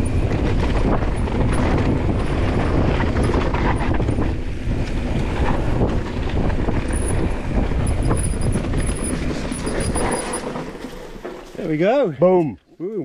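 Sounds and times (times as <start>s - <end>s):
bike knocking and rattling: 0.0s - 12.0s
bike tyres rumbling over dirt: 0.0s - 12.1s.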